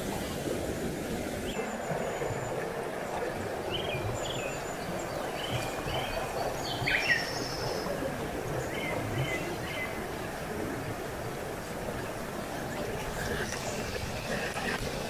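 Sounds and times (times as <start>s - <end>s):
birds chirping: 1.3s - 11.1s, 11.8s - 15.0s.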